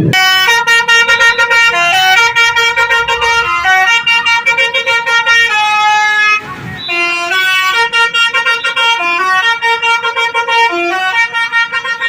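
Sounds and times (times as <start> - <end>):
musical bus horn melody: 0.0 - 12.0.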